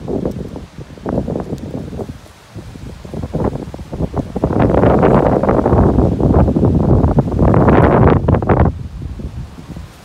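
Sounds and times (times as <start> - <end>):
wind gusting on microphone: 0.0 - 10.0.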